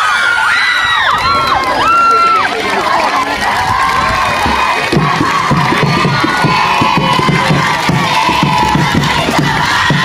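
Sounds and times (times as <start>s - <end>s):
children cheering and screaming: 0.0s - 10.0s.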